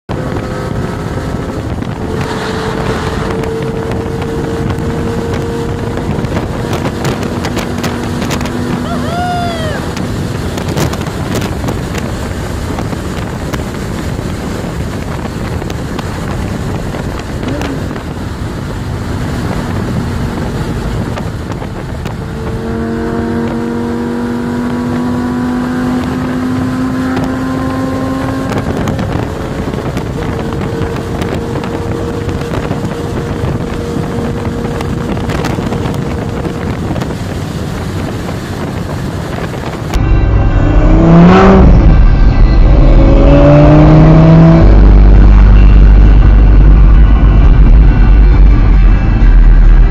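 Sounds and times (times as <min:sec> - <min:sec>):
car engine drone: 0:00.0 - 0:49.9
wind and road roar in car: 0:00.0 - 0:49.9.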